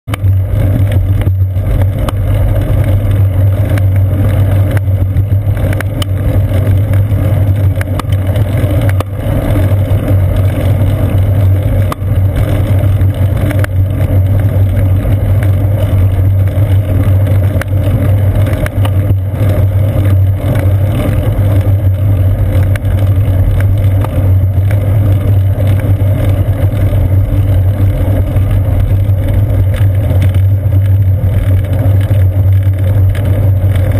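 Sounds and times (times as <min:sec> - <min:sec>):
wind and road rumble: 0:00.0 - 0:33.9.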